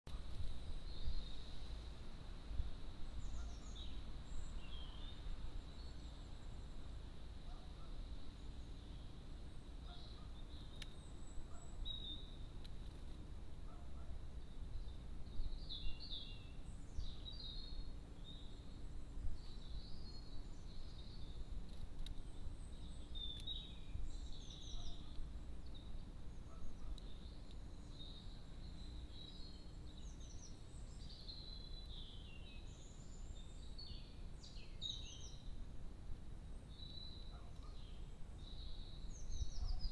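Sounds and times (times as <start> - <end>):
songbirds chirping and singing: 3.1 - 13.0, 13.7 - 35.6, 36.5 - 39.9.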